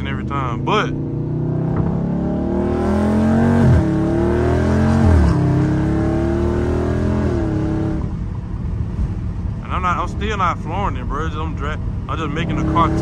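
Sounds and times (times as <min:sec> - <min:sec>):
car engine exhaust accelerating: 0:00.0 - 0:13.0.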